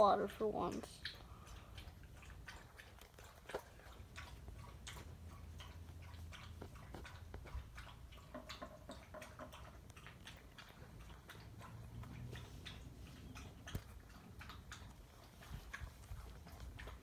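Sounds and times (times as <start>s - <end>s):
dog clicks and ticks: 0.0s - 17.0s.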